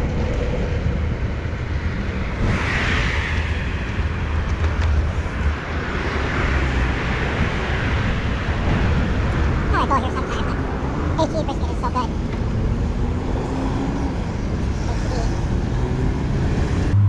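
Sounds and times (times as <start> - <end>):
road traffic noise: 0.0 - 17.0
wind rumbling on microphone: 0.0 - 17.0.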